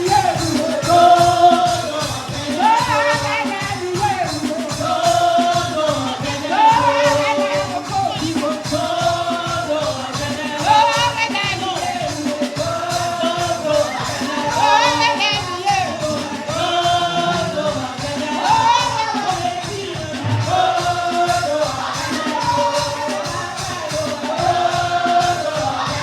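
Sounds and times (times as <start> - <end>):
music with percussive beat: 0.0 - 26.0
voices singing gospel: 0.0 - 26.0.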